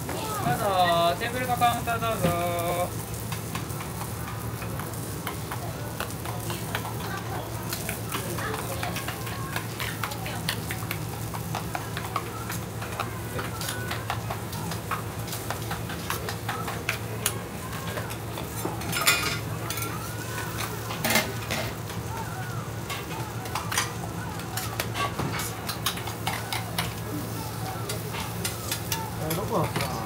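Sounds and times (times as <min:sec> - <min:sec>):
noodles sizzling on griddle: 0:00.0 - 0:30.0.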